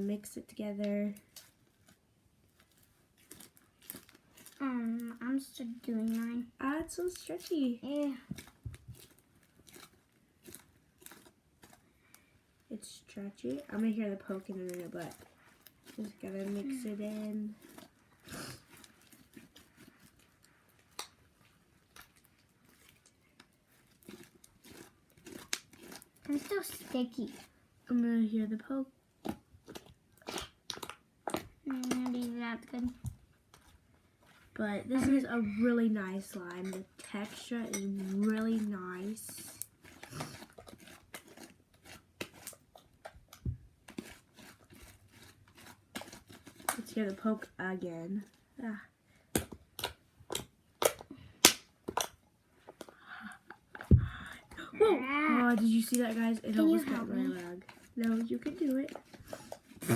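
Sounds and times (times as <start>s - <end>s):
slime squelching by hand: 0.0s - 59.9s.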